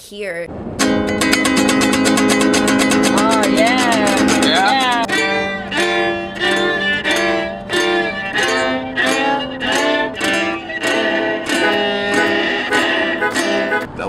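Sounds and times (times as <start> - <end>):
acoustic guitar strumming: 0.8 - 13.9
fiddle playing held notes: 2.5 - 13.9.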